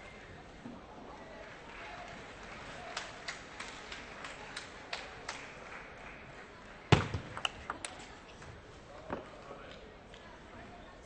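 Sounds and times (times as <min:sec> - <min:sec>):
faint murmur of hall: 0:00.0 - 0:11.0.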